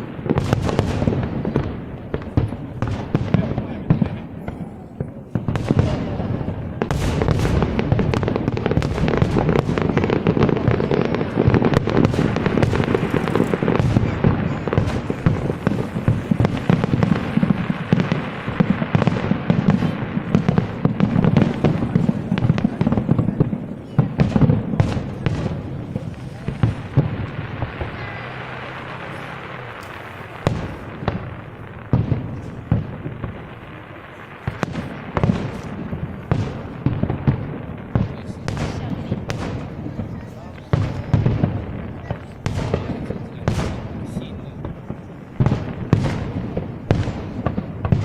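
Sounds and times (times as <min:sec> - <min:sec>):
fireworks bangs and crackling: 0:00.0 - 0:48.0.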